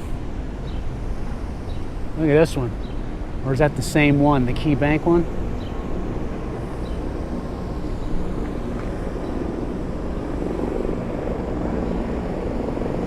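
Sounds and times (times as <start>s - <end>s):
helicopters flying overhead: 0.0s - 13.0s.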